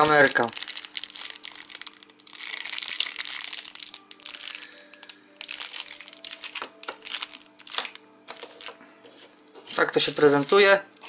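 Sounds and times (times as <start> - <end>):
plastic bags crinkling: 0.0 - 8.8, 9.6 - 10.8
faint background music: 0.0 - 11.0.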